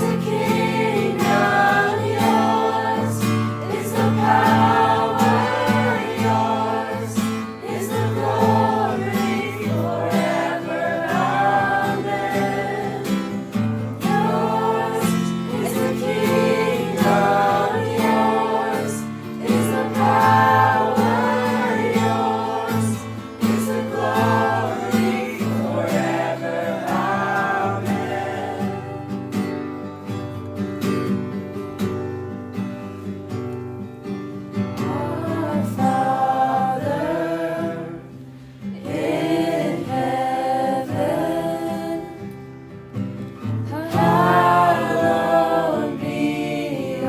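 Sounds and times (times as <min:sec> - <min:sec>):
voices singing together: 0:00.0 - 0:29.6, 0:34.8 - 0:42.4, 0:43.4 - 0:47.0
guitar accompaniment: 0:00.0 - 0:47.0.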